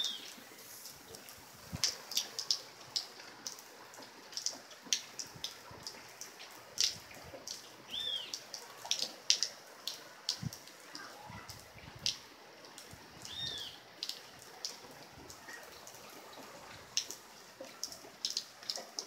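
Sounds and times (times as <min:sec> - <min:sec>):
drops dripping: 0:00.0 - 0:19.0
light rain: 0:00.0 - 0:19.0.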